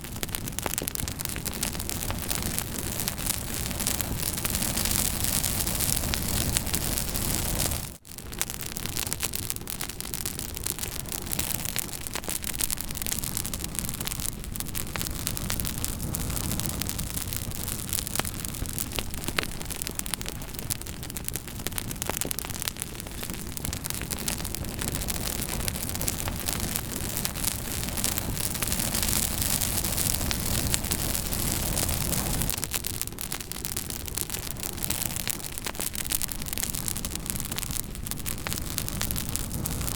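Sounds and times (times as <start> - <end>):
campfire hissing: 0.0 - 39.9
fire crackling and popping: 0.0 - 39.9.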